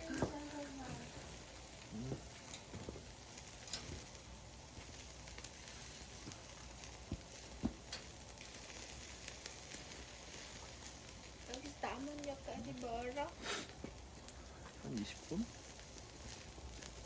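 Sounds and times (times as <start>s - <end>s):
fire pops and crackles: 0.0s - 17.0s
meat sizzling on a fire: 0.0s - 17.0s.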